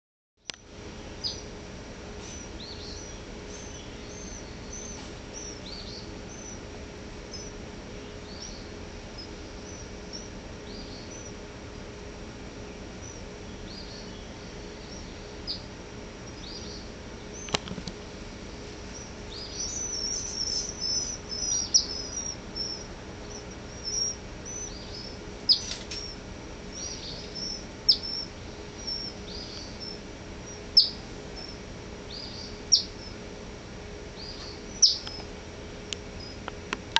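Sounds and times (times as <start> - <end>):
small birds chirping: 0.4 - 36.9.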